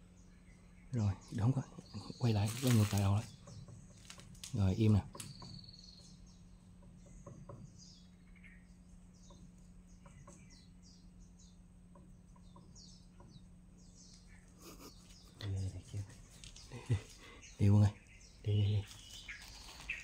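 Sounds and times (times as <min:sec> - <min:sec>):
faint bird chirps: 0:00.0 - 0:20.0
low steady hum: 0:00.0 - 0:20.0.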